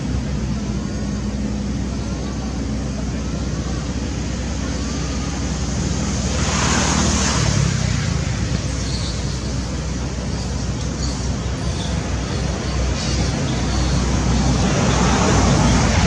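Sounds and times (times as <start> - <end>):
road traffic rumble: 0.0 - 16.0
vehicle passing: 2.9 - 16.0.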